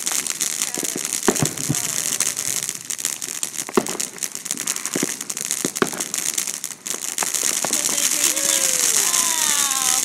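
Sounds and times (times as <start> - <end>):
sharp firework pops: 0.0 - 9.4
fireworks crackling: 0.0 - 10.0.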